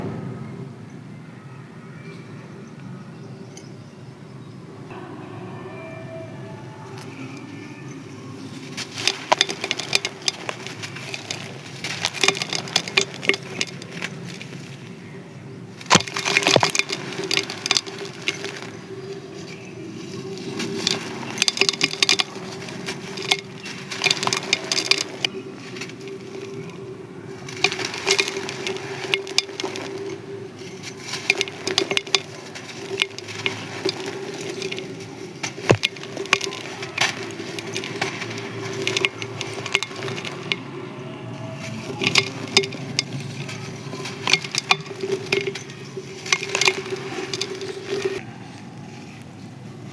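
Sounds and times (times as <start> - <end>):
brittle chunks crunching: 7.8 - 15.1, 15.7 - 49.4.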